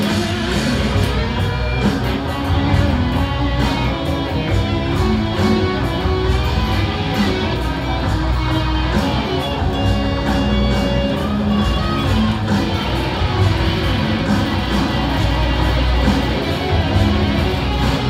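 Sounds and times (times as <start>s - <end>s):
electric guitar picked notes: 0.0s - 18.0s
steady low bass: 0.0s - 18.0s.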